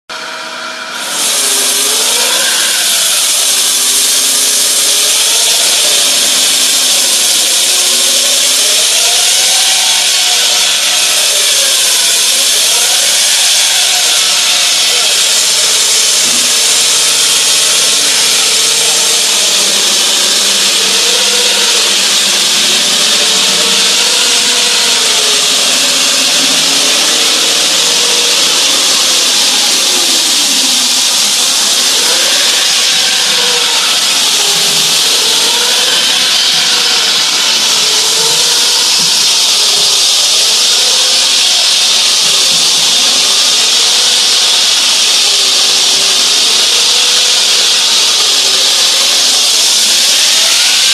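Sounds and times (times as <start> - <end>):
wall saw cutting concrete: 0.1 - 50.9.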